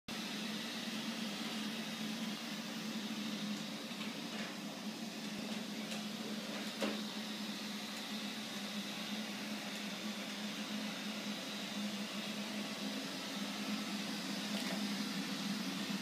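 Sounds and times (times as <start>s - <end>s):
robot vacuum running: 0.1s - 16.0s.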